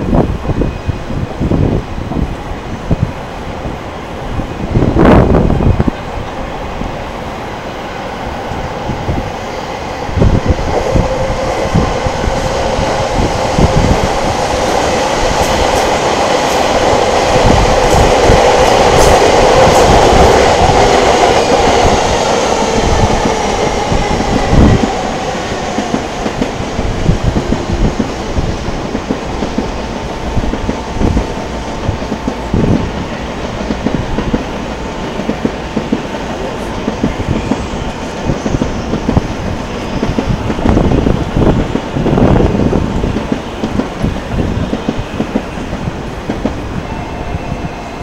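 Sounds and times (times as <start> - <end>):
train wheels rumbling: 0.0 - 48.0.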